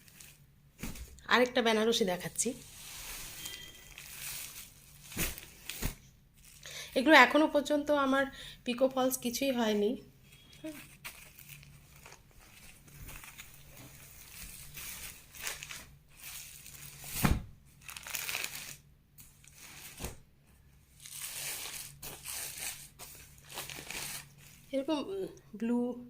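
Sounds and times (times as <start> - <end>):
fabric and wrapping crinkling: 0.0 - 7.4, 10.3 - 20.2, 20.9 - 24.9.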